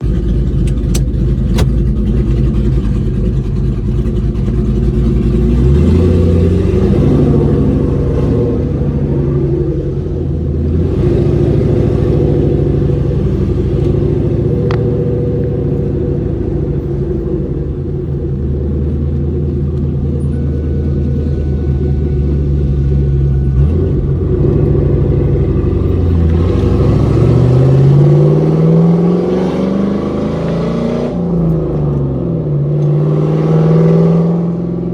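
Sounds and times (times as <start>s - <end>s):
car engine and exhaust revving: 0.0s - 34.9s.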